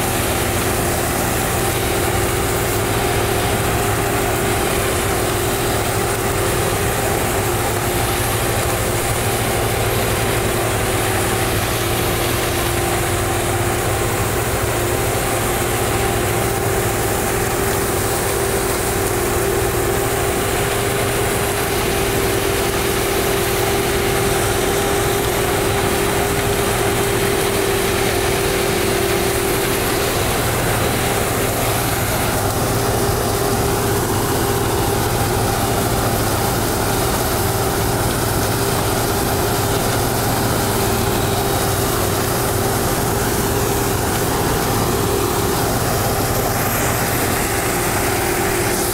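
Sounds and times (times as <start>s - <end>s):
harvester engine drone: 0.0s - 48.9s
steady high whine: 0.0s - 48.9s.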